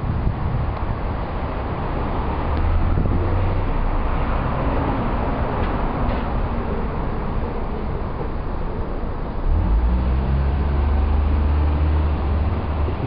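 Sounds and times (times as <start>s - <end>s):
low engine hum: 0.0s - 13.0s
outdoor traffic noise: 0.0s - 13.0s.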